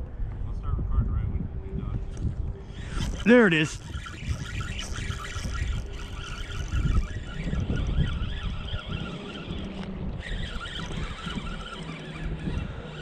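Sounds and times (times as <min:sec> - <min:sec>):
wind buffeting microphone: 0:00.0 - 0:13.0
faint high whine: 0:01.1 - 0:13.0.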